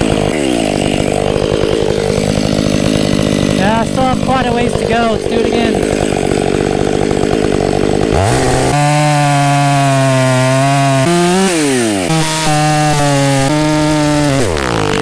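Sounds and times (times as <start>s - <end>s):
chainsaw revving and cutting: 0.0s - 15.0s.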